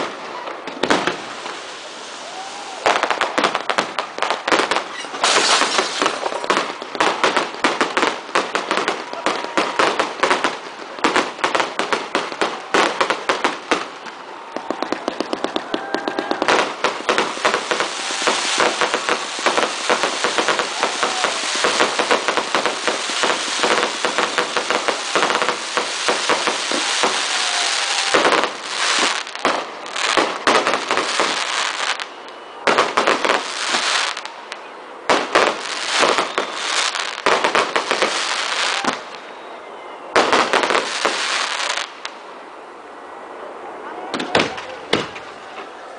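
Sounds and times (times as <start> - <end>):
firecrackers going off: 0.0 - 39.5, 40.1 - 42.2.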